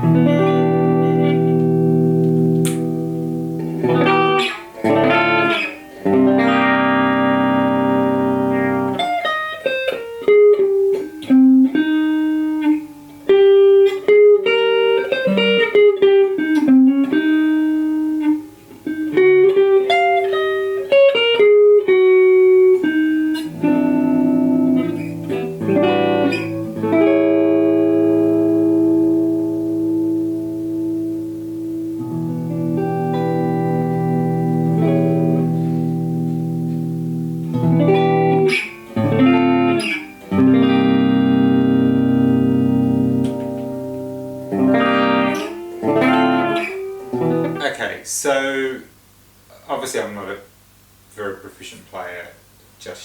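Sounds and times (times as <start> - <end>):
electric guitar chords ringing: 0.0 - 48.0
electric guitar lead line: 0.0 - 48.8.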